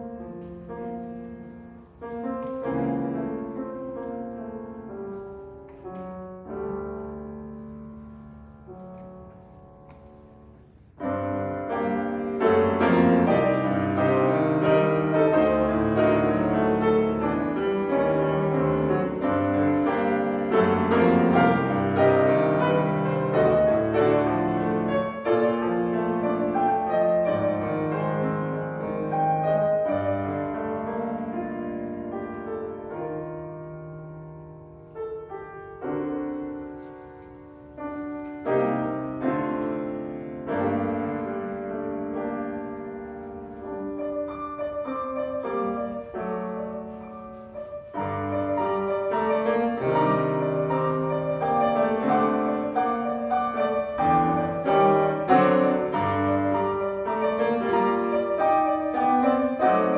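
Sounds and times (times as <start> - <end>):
slow piano piece: 0.0 - 59.9.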